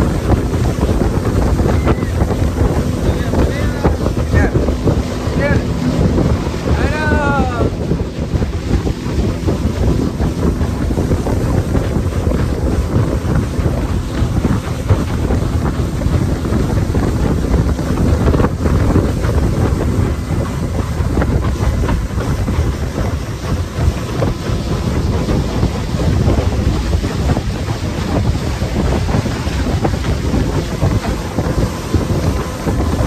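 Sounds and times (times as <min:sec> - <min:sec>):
boat motor drone: 0:00.0 - 0:33.0
spray rushing along hull: 0:00.0 - 0:33.0
wind buffeting microphone: 0:00.0 - 0:33.0.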